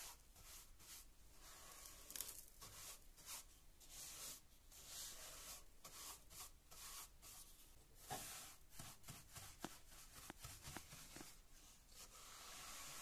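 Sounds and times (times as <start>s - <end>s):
brush sweeping grit on wood: 0.0s - 13.0s.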